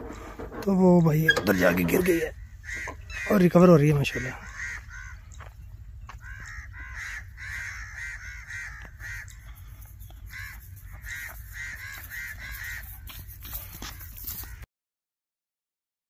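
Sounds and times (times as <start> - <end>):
birds calling: 0.0 - 14.7.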